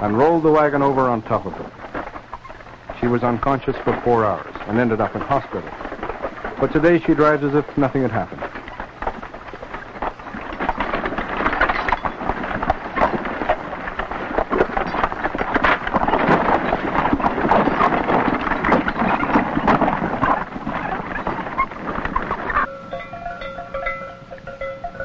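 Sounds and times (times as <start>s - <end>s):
wagon knocks and clatters: 0.0s - 25.0s
wagon rumbling and rattling: 0.0s - 25.0s.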